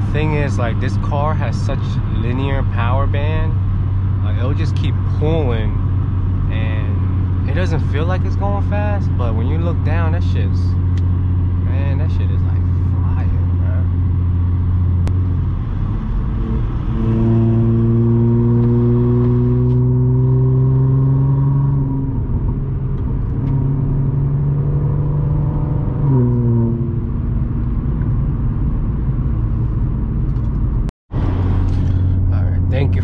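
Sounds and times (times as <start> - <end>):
car engine heard from inside cabin: 0.0 - 33.0.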